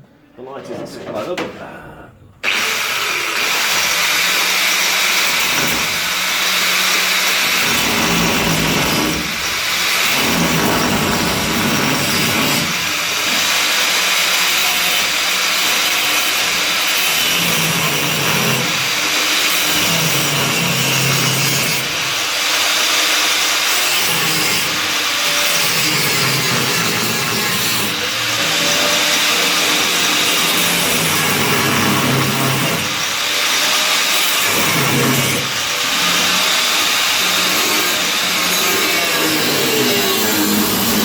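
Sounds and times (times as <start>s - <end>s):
power tool cutting steel: 2.4s - 41.0s.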